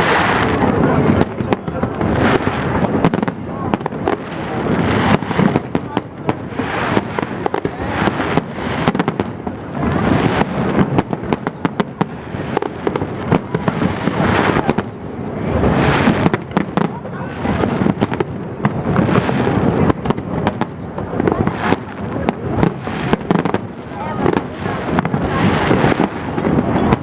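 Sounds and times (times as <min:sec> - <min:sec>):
continuous rumbling wash: 0:00.0 - 0:27.0
fireworks bangs and crackles: 0:00.0 - 0:27.0.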